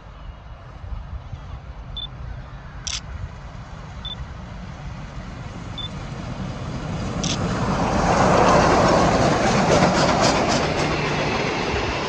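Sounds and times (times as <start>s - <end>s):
steam locomotives rumbling: 2.3s - 12.0s.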